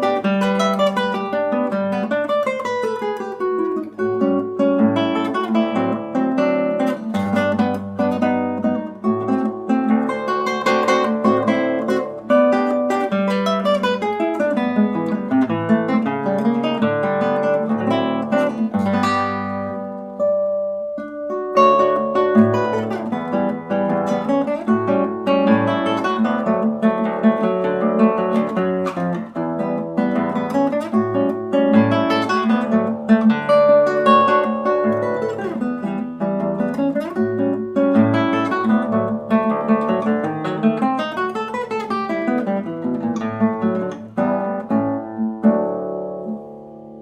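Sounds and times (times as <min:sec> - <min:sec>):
acoustic guitar playing: 0:00.0 - 0:47.0.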